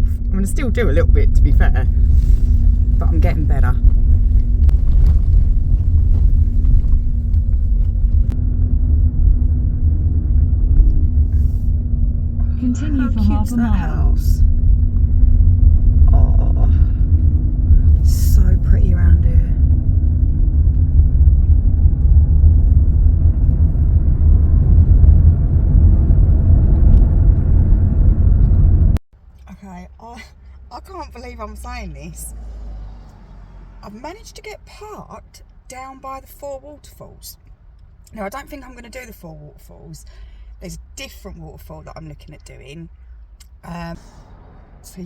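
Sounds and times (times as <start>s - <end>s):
car cabin road and engine rumble: 0.0s - 45.0s.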